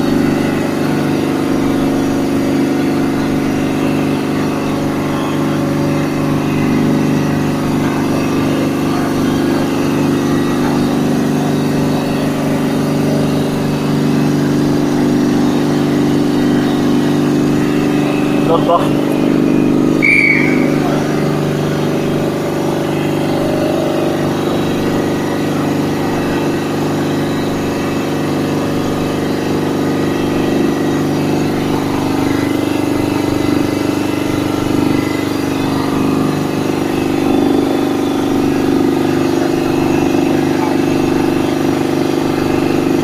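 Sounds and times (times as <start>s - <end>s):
air compressor humming: 0.0s - 43.0s.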